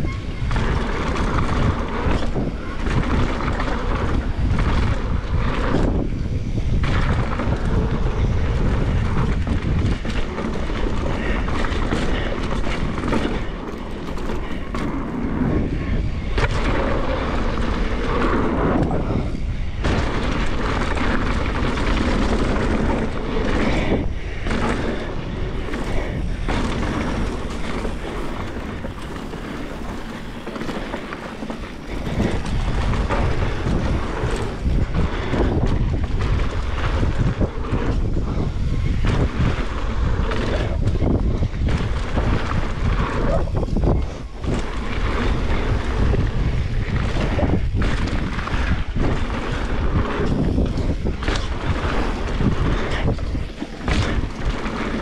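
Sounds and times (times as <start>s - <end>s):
bike knocks and rattles: 0.0s - 55.0s
bike tyres rumbling on dirt: 0.0s - 55.0s
wind buffeting microphone: 0.0s - 55.0s.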